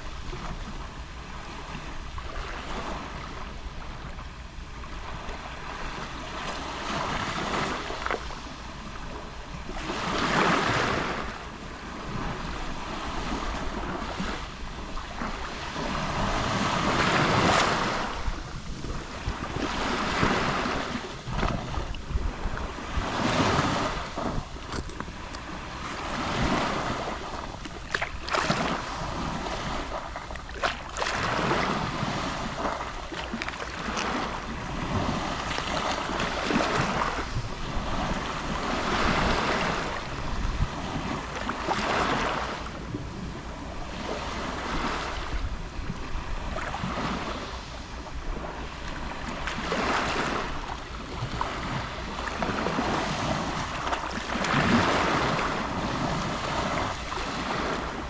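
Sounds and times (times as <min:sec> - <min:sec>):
sea waves lapping on shore: 0:00.0 - 0:58.0
wind rumble on microphone: 0:00.0 - 0:58.0.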